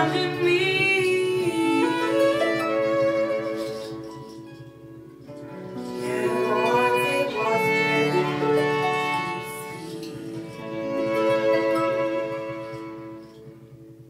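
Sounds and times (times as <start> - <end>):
cello: 0.0 - 14.0
harp: 0.0 - 14.0
violin: 0.0 - 14.0.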